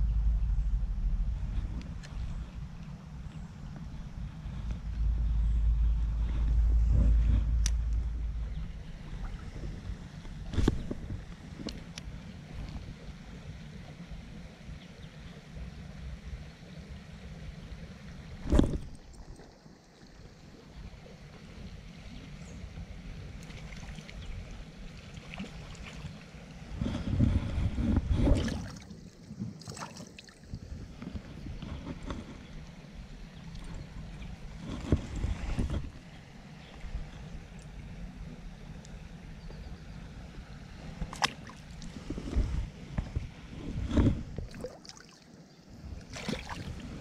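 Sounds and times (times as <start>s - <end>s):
wind rumbling on microphone: 0.0s - 47.0s.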